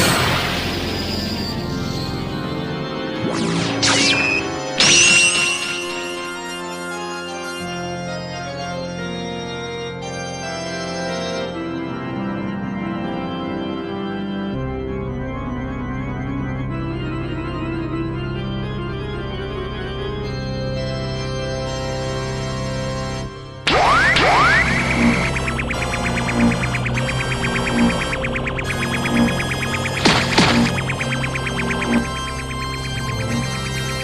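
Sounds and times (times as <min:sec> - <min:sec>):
soundtrack music of held chords: 0:00.0 - 0:34.0.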